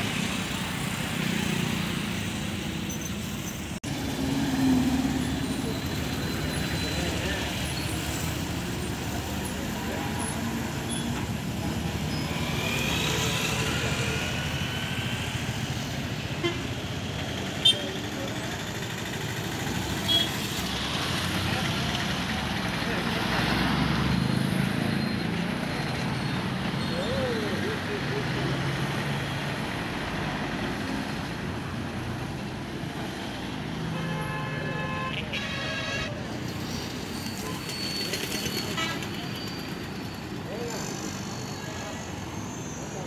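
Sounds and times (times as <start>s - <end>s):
road traffic passing: 0.0s - 43.0s.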